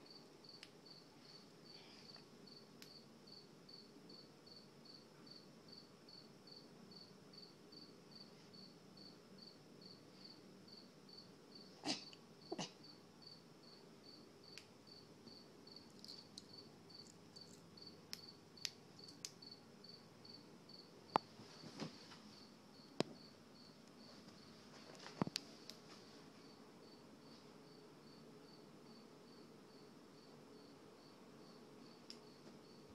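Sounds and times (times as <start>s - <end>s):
insect chirping: 0.0s - 21.7s, 22.3s - 24.6s, 26.4s - 32.9s.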